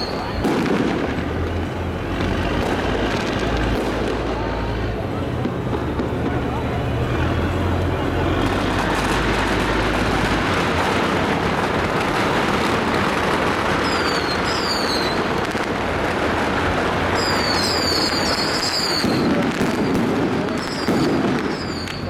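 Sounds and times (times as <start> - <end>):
firecrackers crackling: 0.0 - 22.0.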